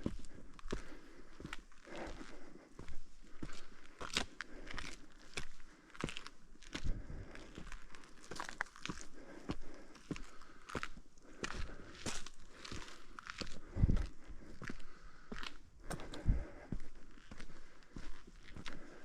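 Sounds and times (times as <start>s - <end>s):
footsteps crunching on trail: 0.0s - 19.0s.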